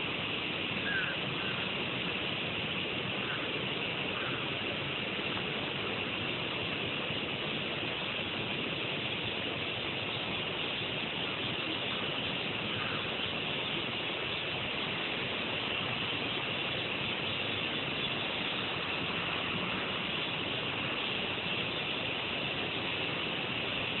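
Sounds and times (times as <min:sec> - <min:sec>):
cicada buzzing: 0:00.0 - 0:24.0.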